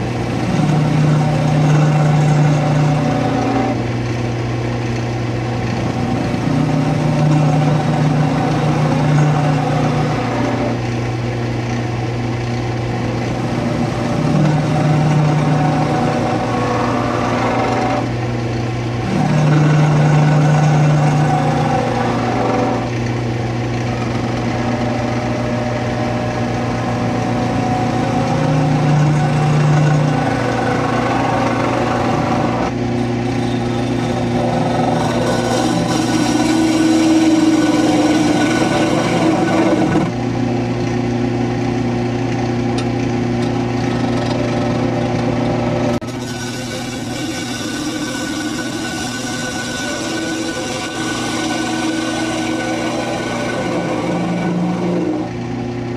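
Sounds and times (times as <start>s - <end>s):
chisel cutting spinning wood: 0.0s - 55.9s
lathe motor hum: 0.0s - 55.9s.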